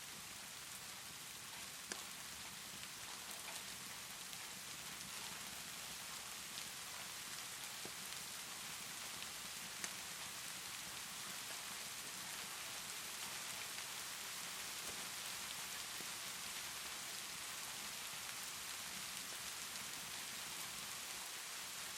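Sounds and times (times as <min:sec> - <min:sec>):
fireplace crackles: 0:00.6 - 0:21.7.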